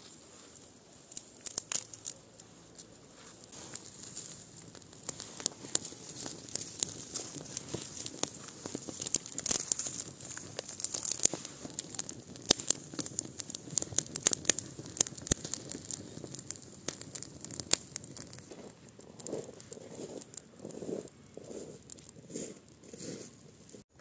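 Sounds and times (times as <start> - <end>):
campfire crackling and popping: 0.6 - 24.0.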